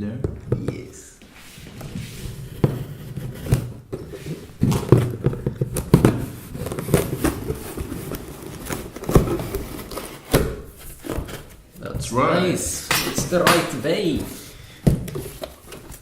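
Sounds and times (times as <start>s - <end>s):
cardboard scraping and rustling: 1.2s - 12.5s, 13.3s - 16.0s.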